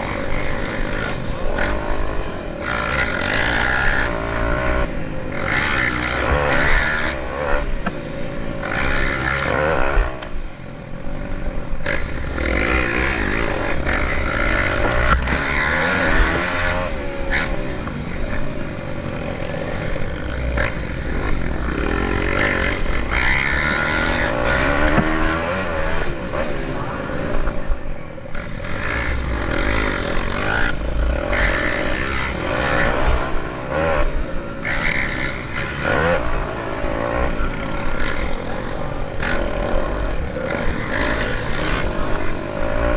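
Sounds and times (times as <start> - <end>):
motorbike engines revving: 0.0 - 42.9.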